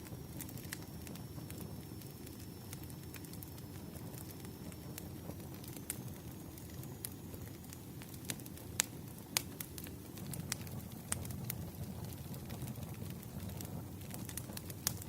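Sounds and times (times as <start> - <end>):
burning wood crackling and popping: 0.0 - 15.0
campfire flames rumbling: 0.0 - 15.0.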